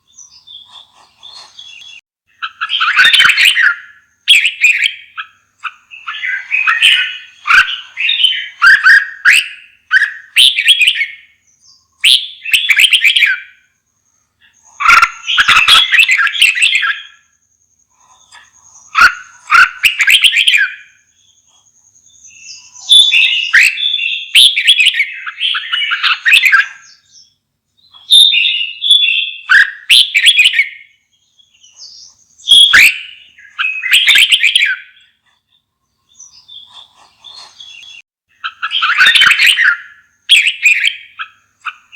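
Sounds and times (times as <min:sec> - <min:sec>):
bird singing warbling phrases: 0:00.0 - 0:41.9.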